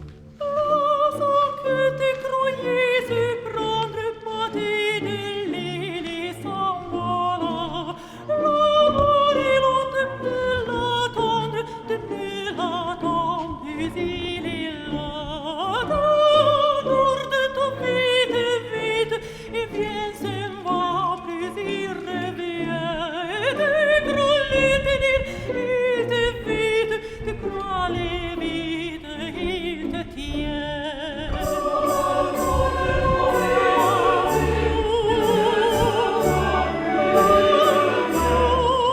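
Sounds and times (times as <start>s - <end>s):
operatic singing with orchestra: 0.0s - 38.9s.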